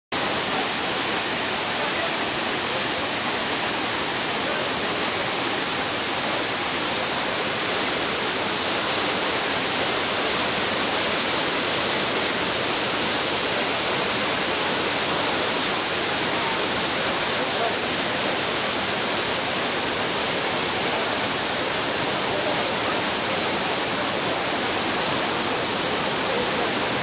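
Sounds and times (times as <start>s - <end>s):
waterfall rushing: 0.1s - 27.0s.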